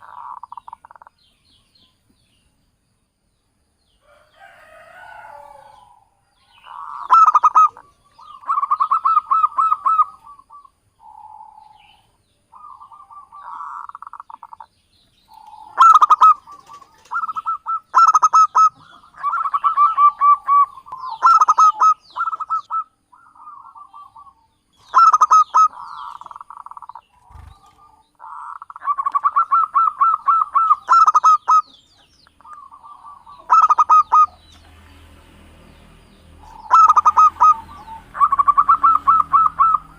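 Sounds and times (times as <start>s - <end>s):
doves cooing: 0.0s - 1.1s, 4.1s - 14.7s, 15.3s - 34.9s, 36.4s - 39.9s.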